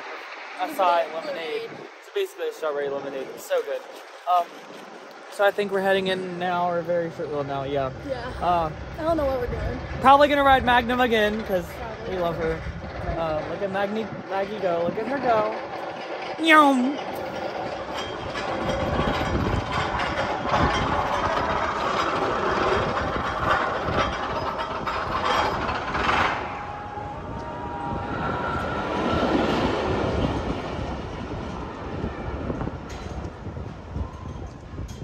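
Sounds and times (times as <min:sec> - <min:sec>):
roller coaster train rumbling on track: 0:00.0 - 0:35.0.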